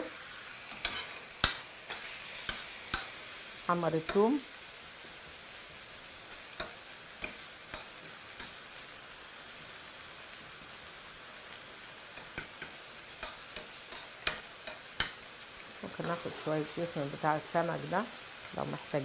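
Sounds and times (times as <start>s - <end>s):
food sizzling in oil: 0.0s - 19.0s.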